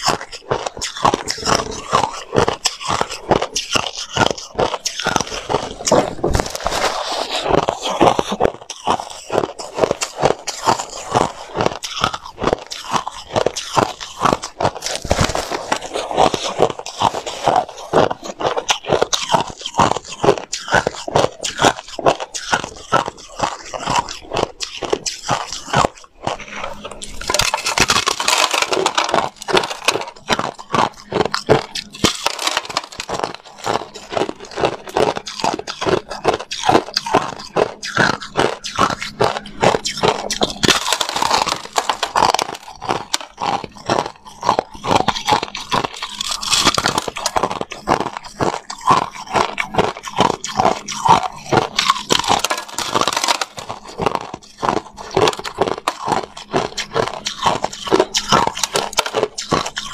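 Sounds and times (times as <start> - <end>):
ice crunching between teeth: 0.0 - 59.9.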